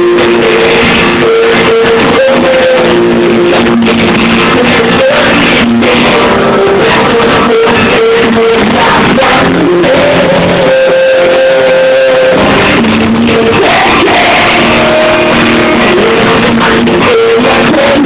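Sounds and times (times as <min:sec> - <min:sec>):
person singing: 0:00.0 - 0:18.0
pop-rock band playing: 0:00.0 - 0:18.0.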